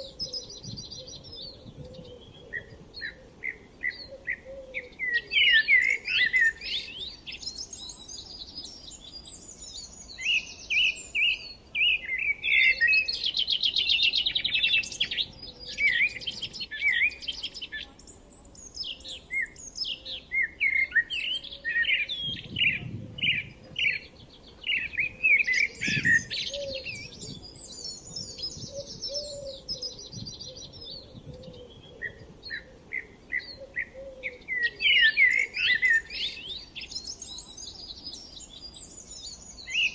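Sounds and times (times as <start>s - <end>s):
small birds chirping and calling: 0.0s - 39.9s.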